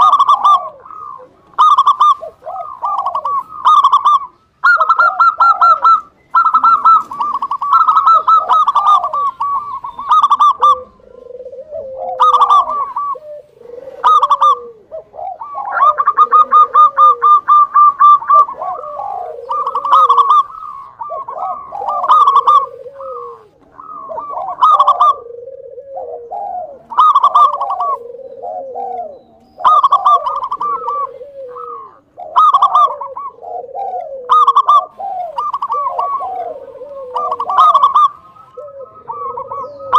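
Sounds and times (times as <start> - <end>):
dove singing: 0.0 - 39.9.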